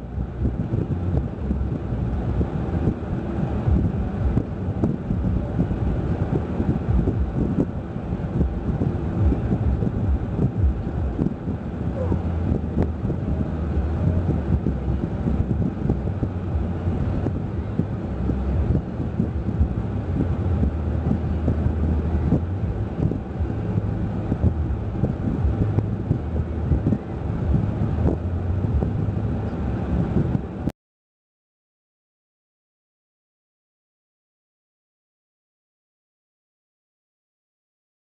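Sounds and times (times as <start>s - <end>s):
car road and engine rumble: 0.0s - 30.7s
wind buffeting: 0.0s - 30.7s.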